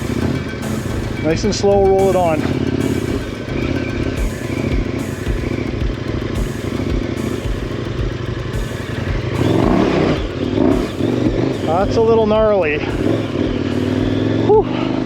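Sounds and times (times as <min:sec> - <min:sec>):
motorcycle engine at low revs: 0:00.0 - 0:15.0.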